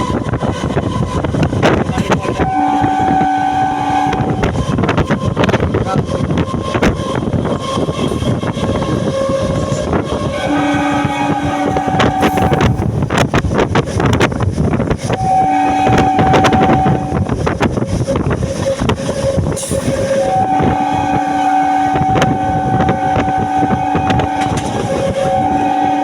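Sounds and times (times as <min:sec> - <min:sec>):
train clacks: 0:00.0 - 0:26.0
train rumbling: 0:00.0 - 0:26.0.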